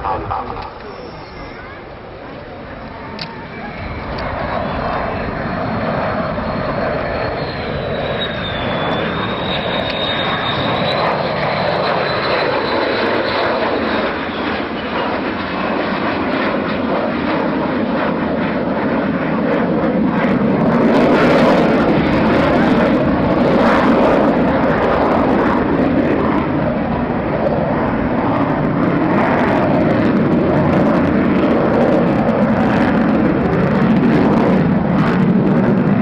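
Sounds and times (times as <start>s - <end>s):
aircraft engine rushing and whining: 0.0s - 36.0s.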